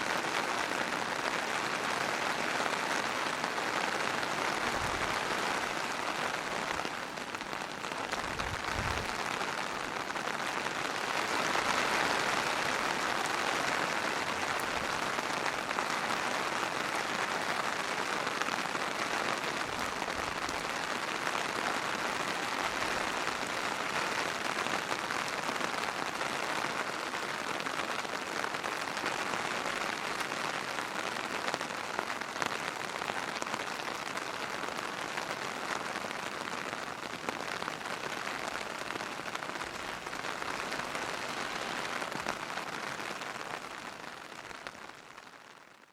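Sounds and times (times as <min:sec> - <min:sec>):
steady rain patter: 0:00.0 - 0:45.9.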